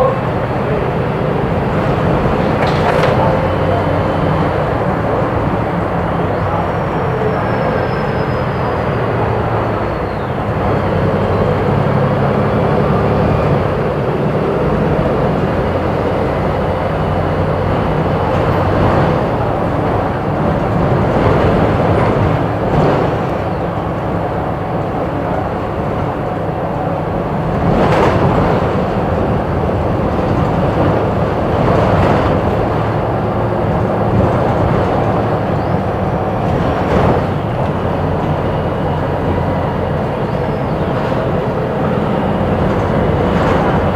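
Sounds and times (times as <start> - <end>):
diesel engine drone: 0.0 - 43.9
road rumble: 0.0 - 43.9.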